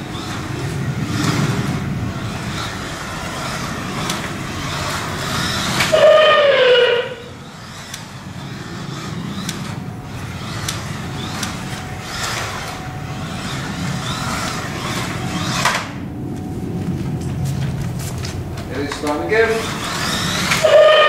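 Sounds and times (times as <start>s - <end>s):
slot car motor whining: 0.0s - 21.0s.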